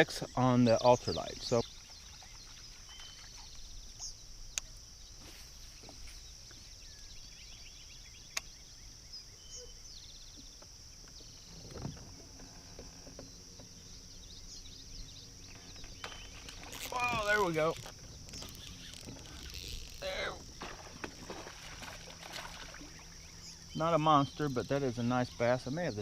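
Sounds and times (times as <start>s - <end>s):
bird calls: 0.0s - 26.0s
insect chirring: 0.0s - 26.0s.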